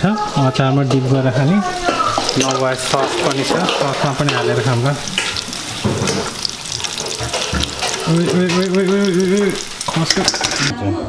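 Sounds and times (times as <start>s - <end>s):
hot oil sizzling: 0.0s - 10.7s.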